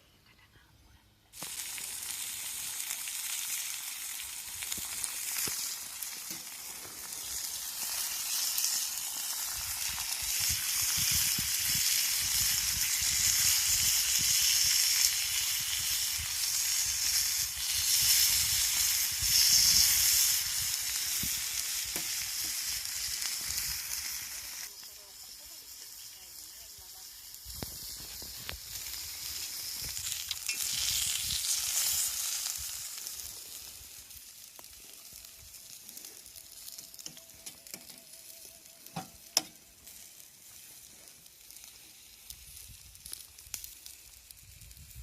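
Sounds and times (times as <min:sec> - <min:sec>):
food frying sizzle: 0:01.4 - 0:45.0.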